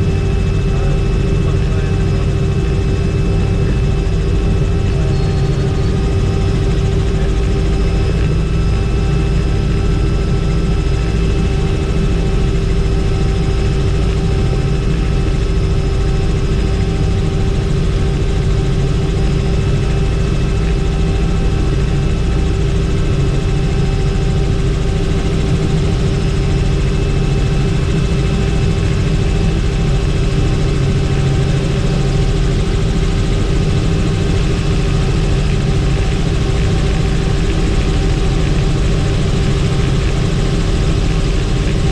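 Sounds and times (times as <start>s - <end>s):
helicopter rotor and turbine noise: 0.0s - 41.9s.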